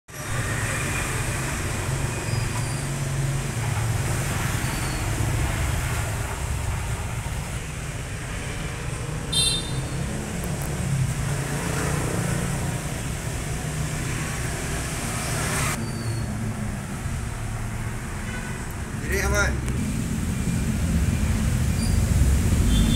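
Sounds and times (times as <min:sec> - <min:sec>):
road traffic rumble: 0:00.1 - 0:22.9.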